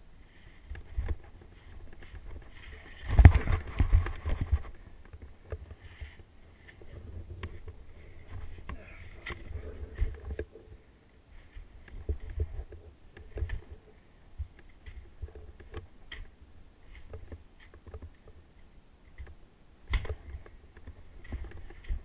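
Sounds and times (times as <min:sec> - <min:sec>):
skis and poles knocking on snow: 0:00.3 - 0:18.4, 0:19.9 - 0:22.0.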